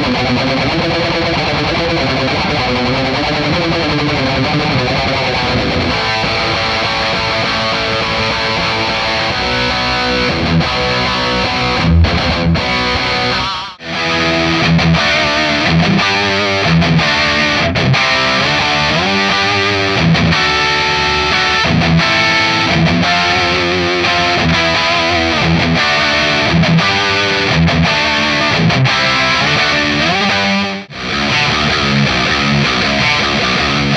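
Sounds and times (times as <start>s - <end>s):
distorted electric guitar: 0.0s - 33.9s.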